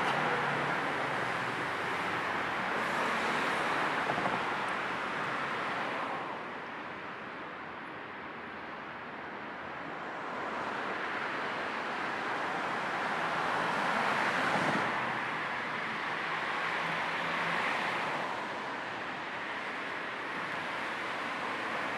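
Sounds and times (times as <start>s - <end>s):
rush of tyres and wind: 0.0s - 21.9s.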